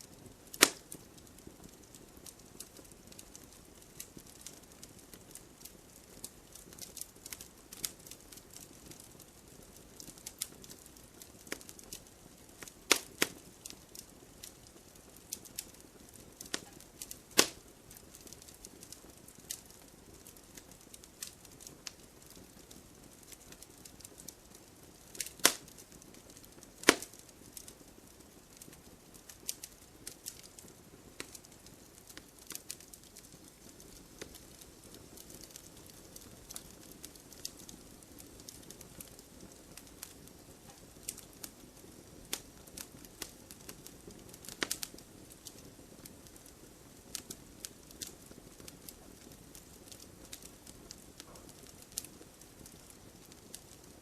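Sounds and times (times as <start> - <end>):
burning wood popping: 0.0 - 54.0
campfire crackling: 0.0 - 54.0.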